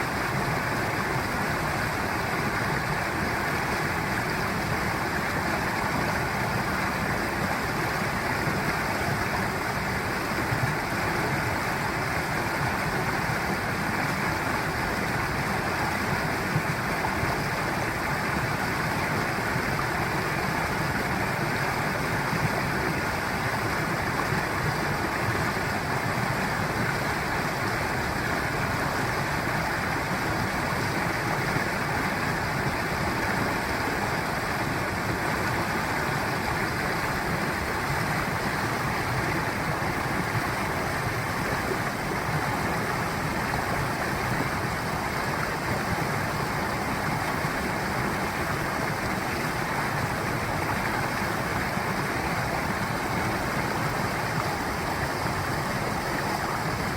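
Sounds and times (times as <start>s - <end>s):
water rushing over rocks: 0.0s - 56.9s.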